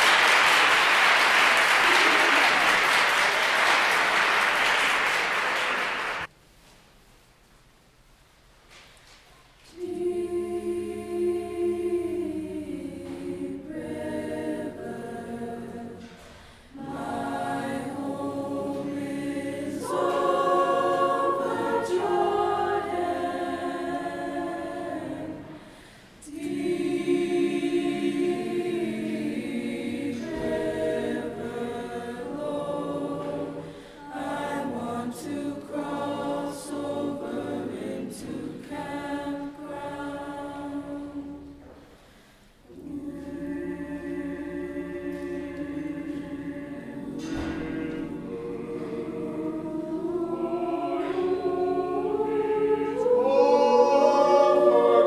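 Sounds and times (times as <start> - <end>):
choir singing unaccompanied: 9.7 - 41.8, 42.6 - 55.0.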